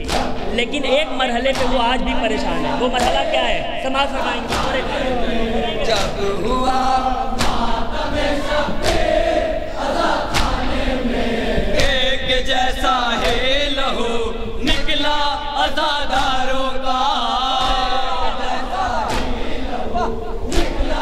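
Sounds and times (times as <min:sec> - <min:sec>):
men chanting in chorus: 0:00.0 - 0:21.0
reciter at microphone: 0:00.0 - 0:21.0
rhythmic chest-beating strikes: 0:00.0 - 0:21.0.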